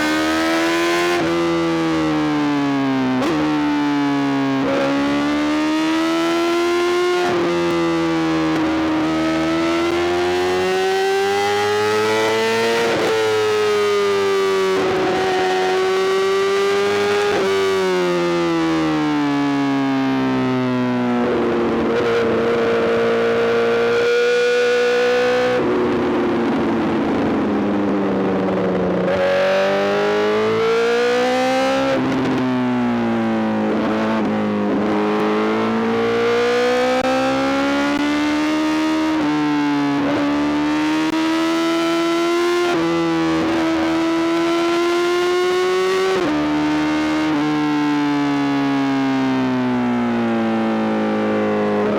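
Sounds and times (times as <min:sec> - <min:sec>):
motorcycle engine at high revs: 0:00.0 - 0:19.3, 0:20.4 - 0:49.6, 0:50.2 - 0:51.9.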